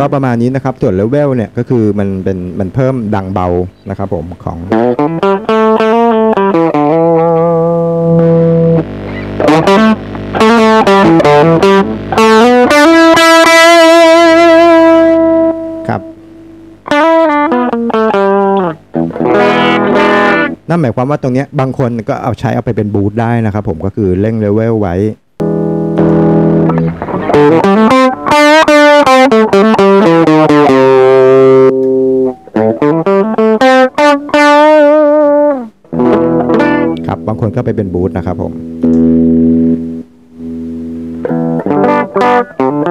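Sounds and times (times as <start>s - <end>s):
electric guitar single notes: 2.7s - 20.7s, 25.4s - 42.9s.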